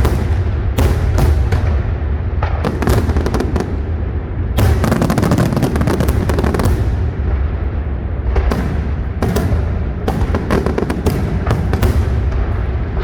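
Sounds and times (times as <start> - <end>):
rapid volley of cracks: 0.0 - 13.0.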